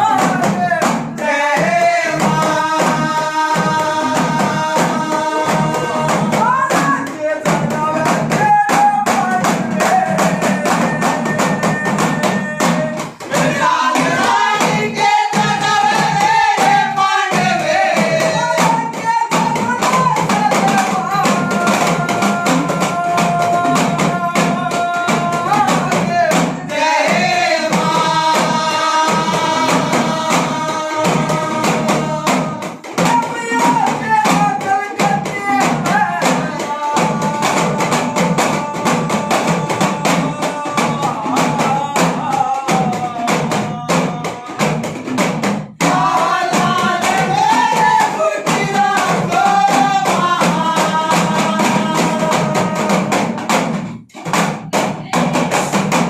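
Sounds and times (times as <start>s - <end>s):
man singing devotional song: 0.0s - 53.8s
fast hand drums: 0.0s - 56.0s.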